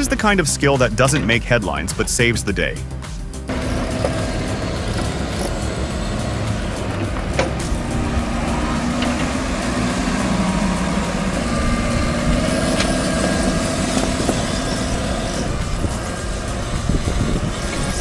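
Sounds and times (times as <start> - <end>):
excavator diesel engine running: 0.0 - 18.0
held tones: 0.0 - 18.0.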